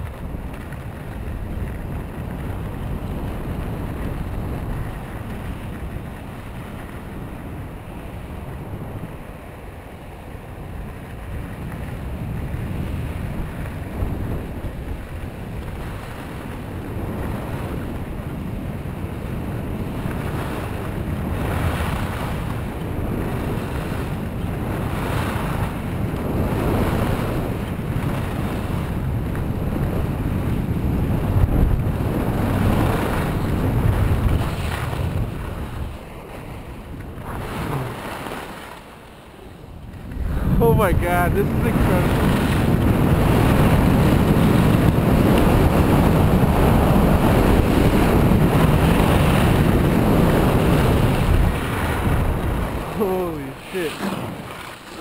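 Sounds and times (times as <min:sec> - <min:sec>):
skis scraping on snow: 0:00.0 - 0:55.0
wind rushing over microphone: 0:00.0 - 0:55.0.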